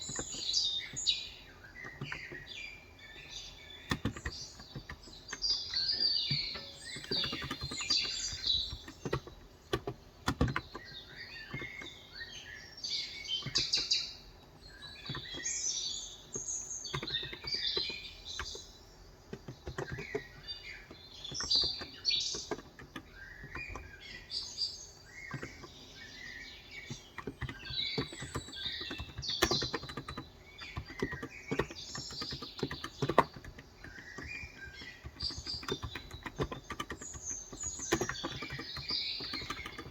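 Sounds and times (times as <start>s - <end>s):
keyboard typing clicks: 0.0s - 1.2s, 1.8s - 12.0s, 13.2s - 14.1s, 14.7s - 15.6s, 16.3s - 24.5s, 25.1s - 39.9s
birds chirping: 0.0s - 39.9s.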